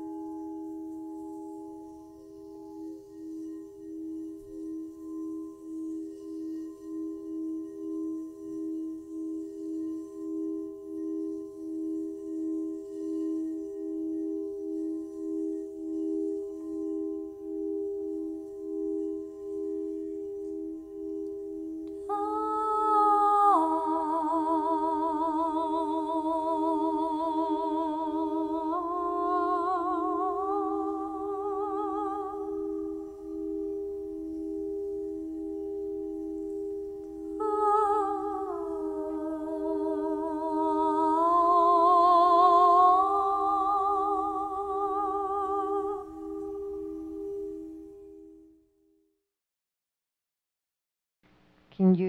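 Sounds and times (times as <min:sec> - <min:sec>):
singing bowls ringing: 0:00.0 - 0:48.6.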